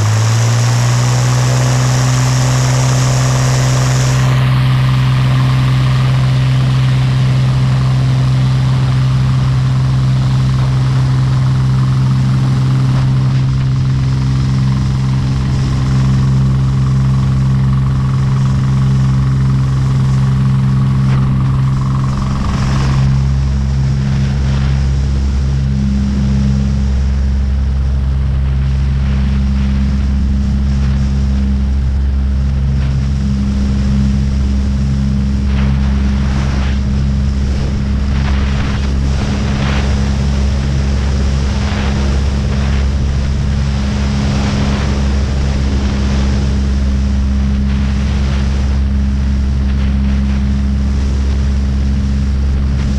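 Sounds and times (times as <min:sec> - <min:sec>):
high engine whine: 0:00.0 - 0:52.9
small aircraft engine drone: 0:00.0 - 0:52.9.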